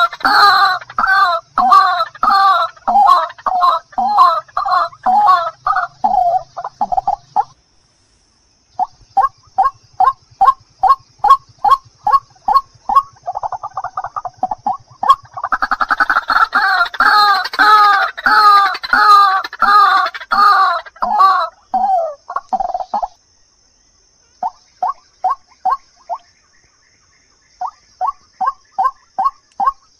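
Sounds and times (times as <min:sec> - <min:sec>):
waterhen calls: 0:00.0 - 0:07.6, 0:08.8 - 0:23.2, 0:27.6 - 0:29.9.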